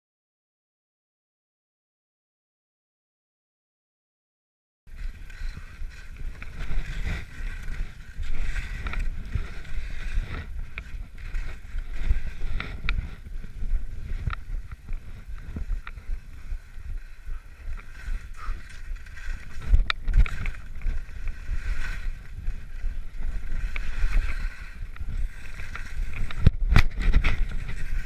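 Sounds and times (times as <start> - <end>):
skis scraping on snow: 4.9 - 28.0
wind rumble on microphone: 4.9 - 28.0.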